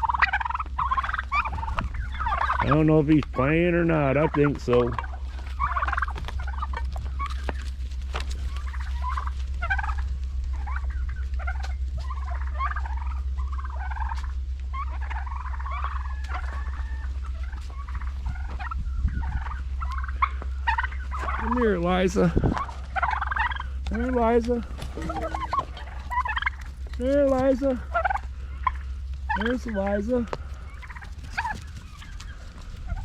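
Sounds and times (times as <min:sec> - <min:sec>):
steady low hum: 0:00.0 - 0:33.0
turkeys gobbling: 0:00.0 - 0:33.0.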